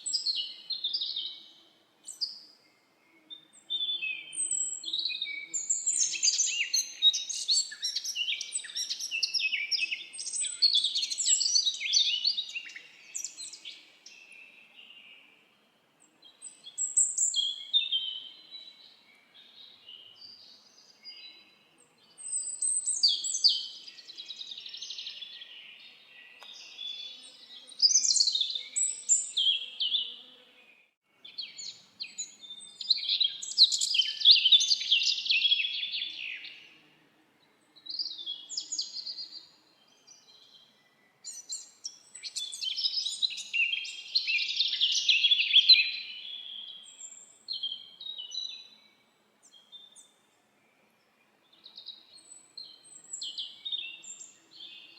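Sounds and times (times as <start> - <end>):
birds singing warbling song: 0.0 - 54.9.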